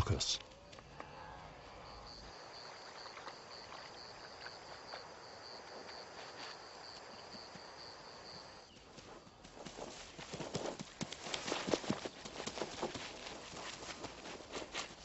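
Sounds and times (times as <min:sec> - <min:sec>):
insect chirping: 0:01.6 - 0:15.0.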